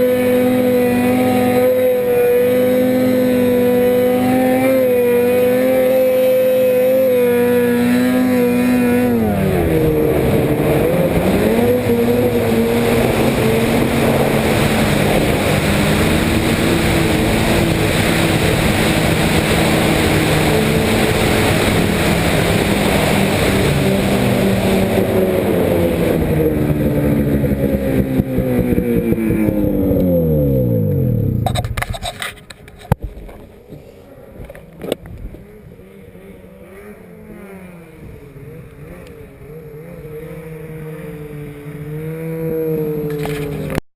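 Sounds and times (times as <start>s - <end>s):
snowmobile engine at high revs: 0.0s - 43.8s.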